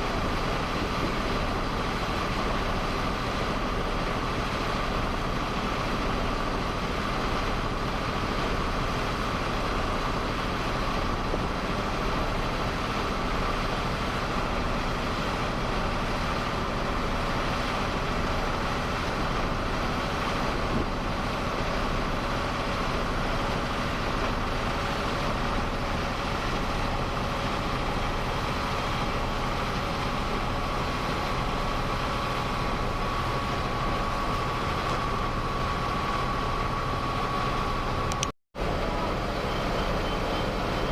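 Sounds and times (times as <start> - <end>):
boat engine running: 0.0 - 40.9
steady whine: 0.0 - 40.9.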